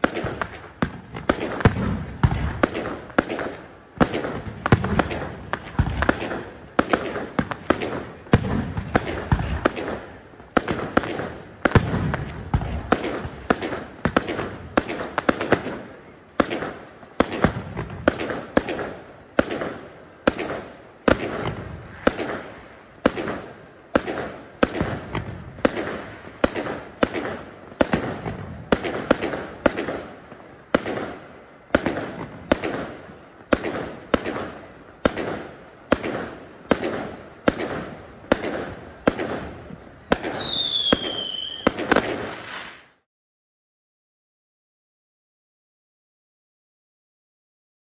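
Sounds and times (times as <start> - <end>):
fireworks bursting with sharp bangs: 0.0 - 43.1.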